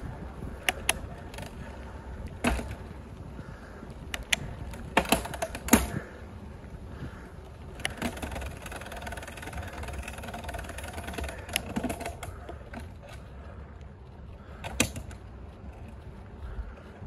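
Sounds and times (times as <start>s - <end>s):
road rumble: 0.0s - 17.0s
light clicking rattle: 0.5s - 2.9s, 4.0s - 6.2s, 7.7s - 17.0s.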